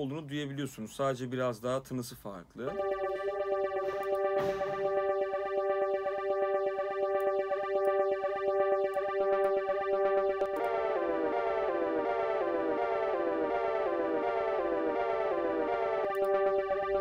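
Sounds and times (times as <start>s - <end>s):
falling pitch swoops: 2.7s - 17.0s
flanged synthesizer note: 2.7s - 17.0s.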